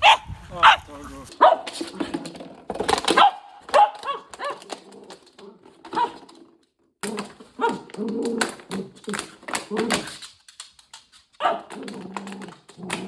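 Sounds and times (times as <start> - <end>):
background noise: 0.0 - 13.0.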